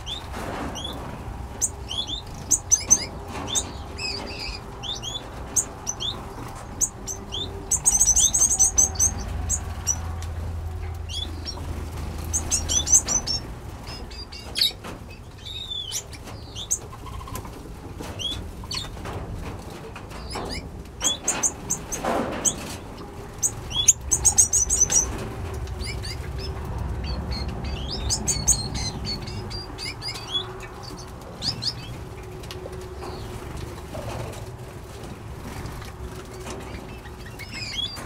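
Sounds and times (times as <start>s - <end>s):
finches and parrots chirping: 0.0s - 1.0s, 1.6s - 10.1s, 10.8s - 17.5s, 20.2s - 32.3s, 32.9s - 33.4s, 36.1s - 38.0s.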